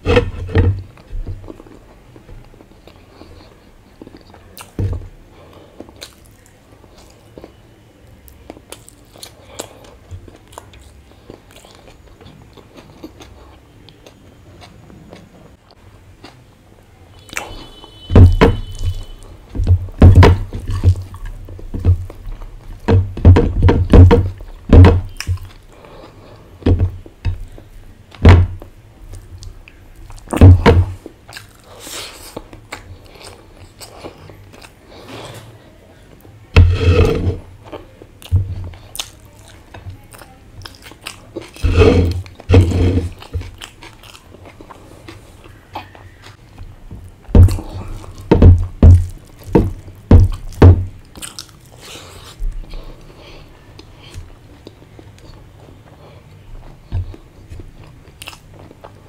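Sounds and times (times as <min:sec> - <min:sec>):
person chewing food: 0:00.0 - 0:07.6, 0:08.3 - 0:16.5, 0:17.2 - 0:59.0.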